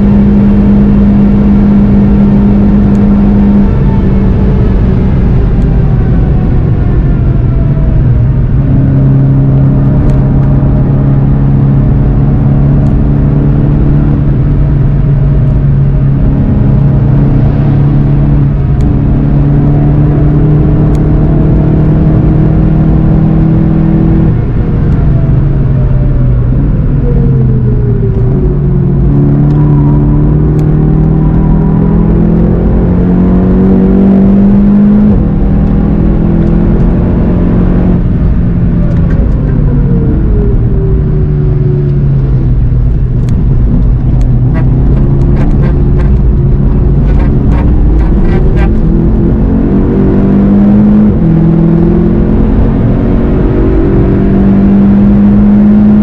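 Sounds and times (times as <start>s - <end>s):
car engine at speed: 0.0s - 56.0s
road and tyre noise: 0.0s - 56.0s.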